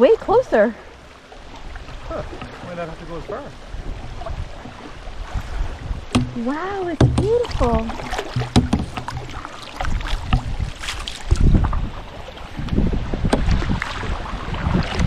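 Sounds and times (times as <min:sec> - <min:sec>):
paddle water splashing and dripping: 0:00.0 - 0:15.0
wind gusting over microphone: 0:01.7 - 0:15.0.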